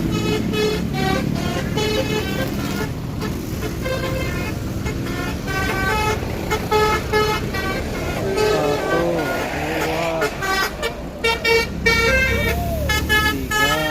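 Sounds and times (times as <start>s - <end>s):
low vehicle rumble: 0.0s - 13.9s
musical air horn playing a tune: 0.0s - 13.9s.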